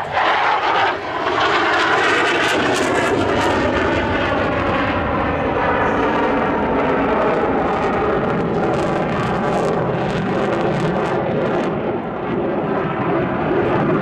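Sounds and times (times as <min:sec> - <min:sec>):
jet flying loud rush: 0:00.0 - 0:14.0.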